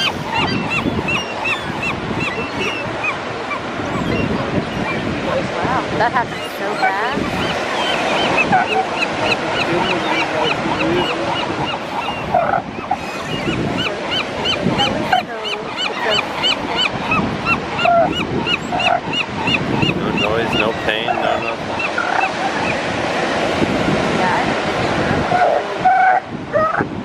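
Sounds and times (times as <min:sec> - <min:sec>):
seals honking and squawking: 0:00.0 - 0:26.9
waves washing: 0:00.0 - 0:27.0.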